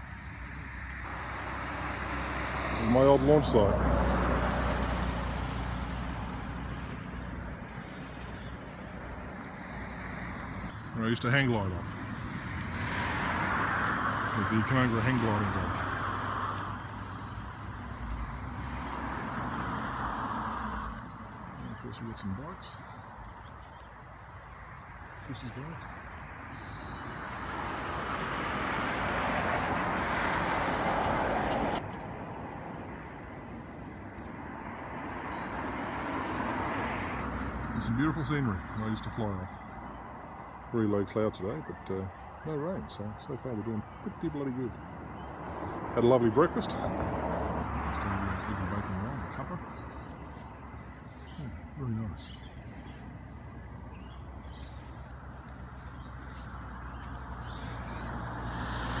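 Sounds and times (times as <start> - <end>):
birds chirping: 0.0 - 59.0
car passing on road: 0.0 - 59.0.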